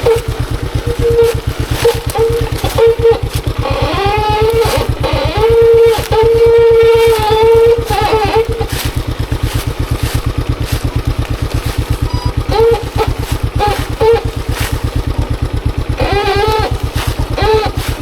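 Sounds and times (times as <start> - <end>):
motorcycle engine chugging: 0.0 - 18.0.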